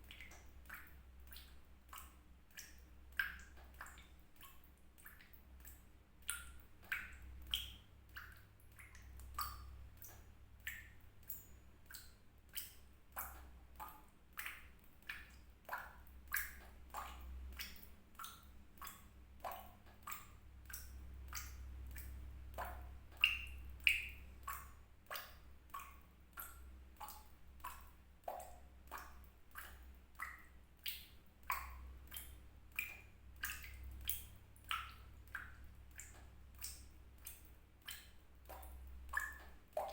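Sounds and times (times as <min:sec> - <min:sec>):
water drops plinking into water: 0:00.0 - 0:39.9.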